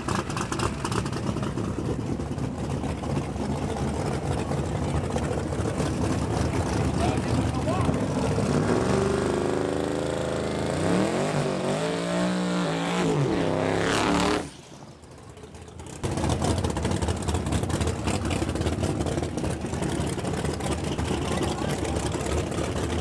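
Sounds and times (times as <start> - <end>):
truck engine revving: 3.0 - 23.0.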